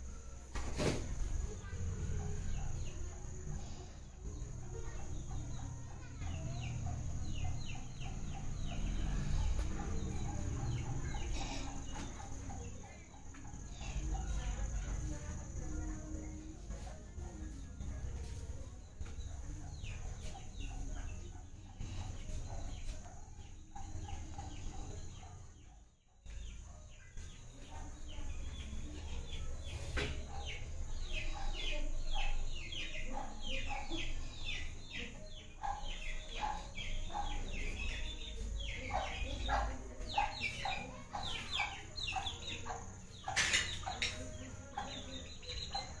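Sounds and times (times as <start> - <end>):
birds chirping: 1.7 - 46.0.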